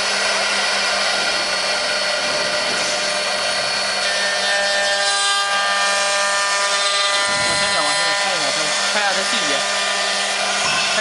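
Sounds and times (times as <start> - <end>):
router spindles whining: 0.0 - 11.0.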